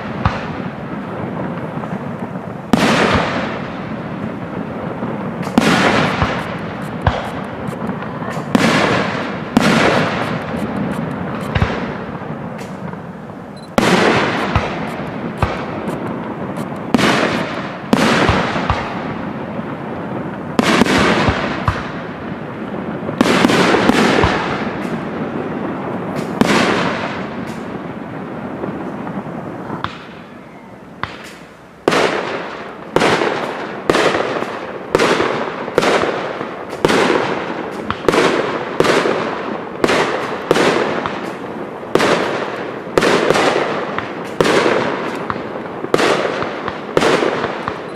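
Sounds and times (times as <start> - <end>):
firework bangs echoing: 0.0 - 30.4, 31.0 - 47.9.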